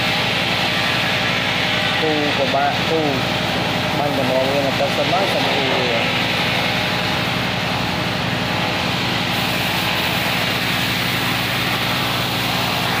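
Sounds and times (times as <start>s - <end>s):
motor humming: 0.0s - 13.0s
spray gun hissing: 0.0s - 13.0s.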